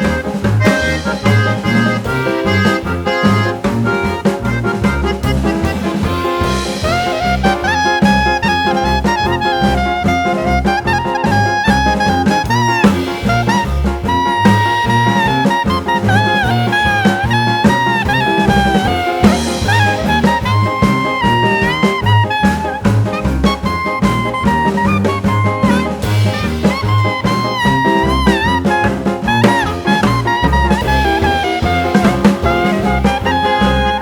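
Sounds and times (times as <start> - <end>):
upbeat jazz tune with horn: 0.0 - 34.0.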